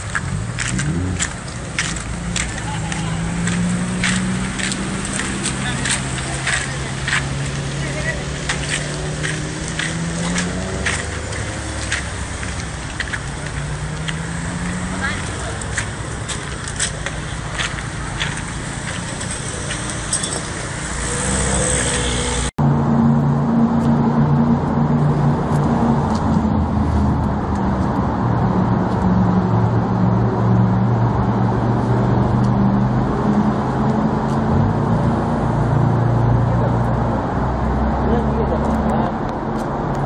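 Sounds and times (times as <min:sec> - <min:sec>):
loud low engine hum: 0:00.0 - 0:40.0
road traffic: 0:00.0 - 0:40.0.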